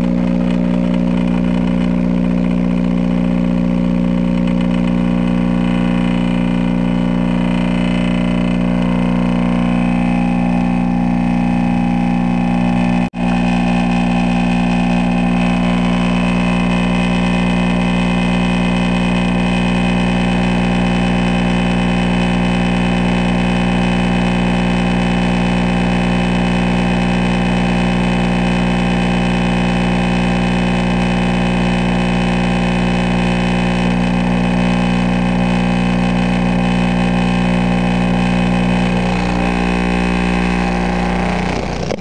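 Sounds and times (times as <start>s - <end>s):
loud low mains hum buzz: 0.0s - 42.0s.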